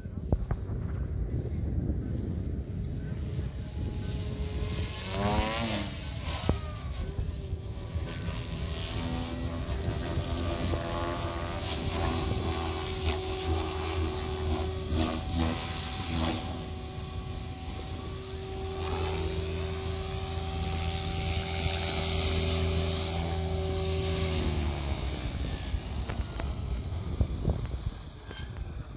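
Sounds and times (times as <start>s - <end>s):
electric rc helicopter rotor whine: 0.0s - 28.9s.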